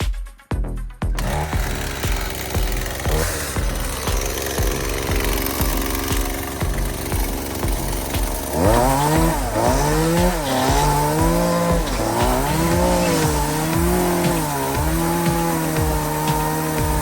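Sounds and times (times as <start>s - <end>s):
chainsaw cutting a log: 1.1s - 17.0s.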